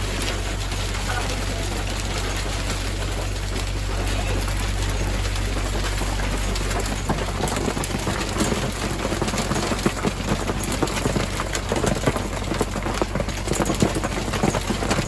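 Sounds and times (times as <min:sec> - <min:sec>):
hail and rain pelting a boat: 0:00.0 - 0:15.0.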